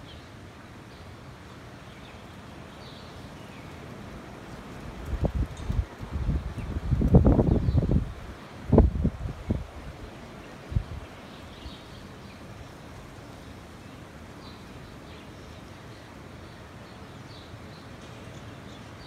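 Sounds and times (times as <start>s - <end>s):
low rush of wind: 0.0s - 19.0s.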